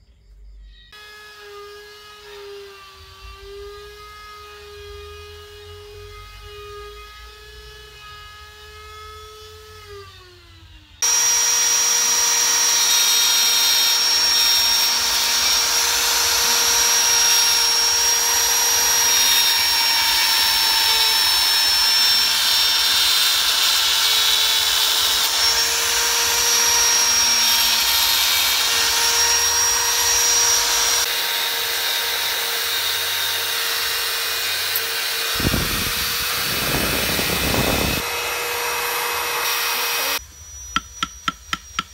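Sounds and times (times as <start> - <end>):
rotary tool grinding wood: 1.0 - 41.9.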